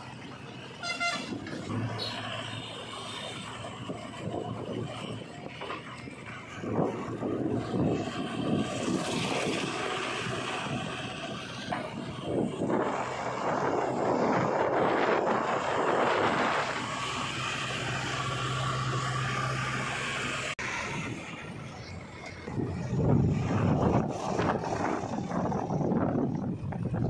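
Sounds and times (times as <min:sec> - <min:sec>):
diesel engine running: 0:00.0 - 0:27.0
wind buffeting microphone: 0:03.3 - 0:19.9, 0:20.6 - 0:27.0.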